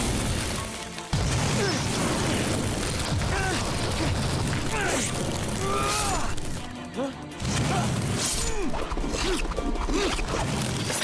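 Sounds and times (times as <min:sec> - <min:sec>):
cartoon soundtrack music: 0:00.0 - 0:11.0.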